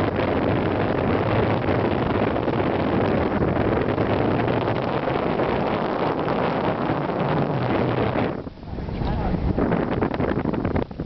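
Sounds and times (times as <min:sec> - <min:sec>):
boat engine hum: 0:00.0 - 0:11.0
wind on microphone: 0:00.0 - 0:11.0.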